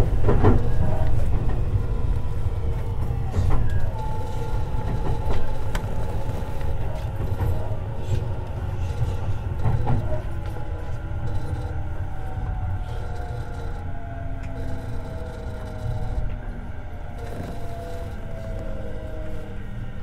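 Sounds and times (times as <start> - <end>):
train equipment humming: 0.0 - 20.0.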